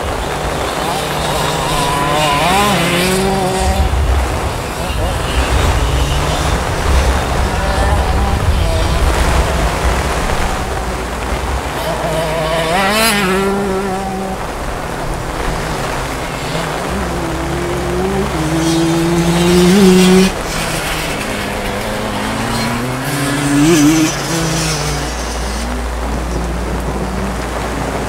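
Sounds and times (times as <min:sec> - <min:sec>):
moped engines revving: 0:00.0 - 0:28.0
rain hissing: 0:00.0 - 0:28.0.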